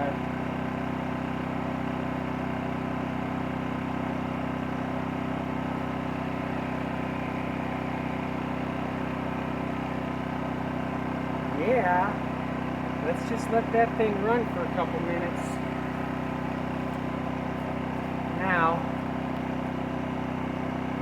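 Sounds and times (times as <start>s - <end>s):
generator humming: 0.0s - 21.0s.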